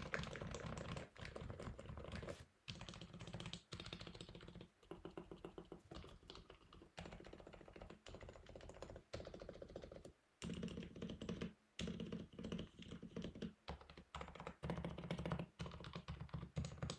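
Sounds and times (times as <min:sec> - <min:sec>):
fast muted keyboard typing: 0:00.0 - 0:16.9.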